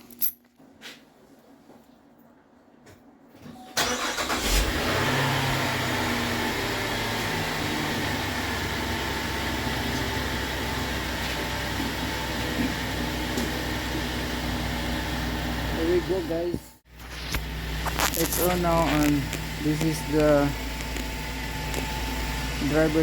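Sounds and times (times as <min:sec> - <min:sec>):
car engine starting and idling: 0:03.6 - 0:23.0.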